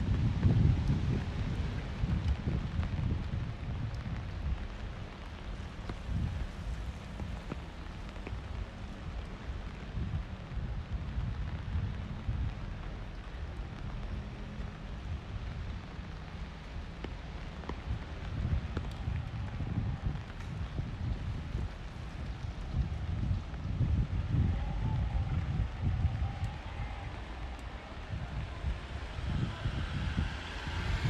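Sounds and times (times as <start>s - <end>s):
rain falling on street: 0.0s - 31.0s
wind buffeting microphone: 0.0s - 31.0s.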